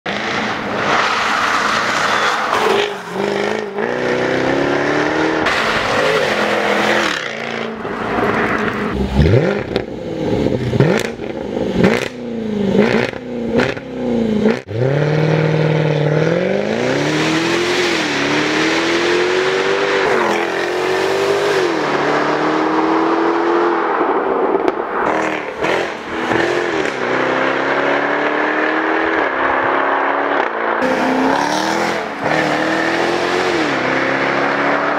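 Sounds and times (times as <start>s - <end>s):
car engine revving: 0.1s - 23.8s, 24.6s - 34.9s.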